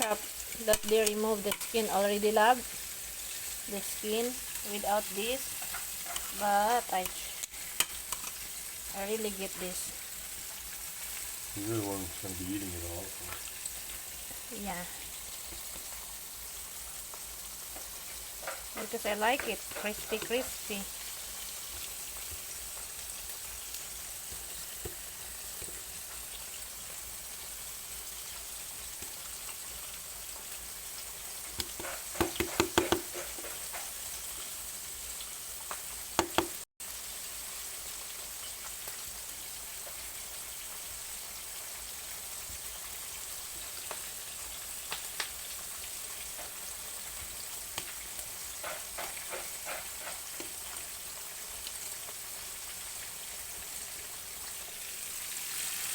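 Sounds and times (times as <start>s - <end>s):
pork chops sizzling in a pan: 0.0s - 55.9s.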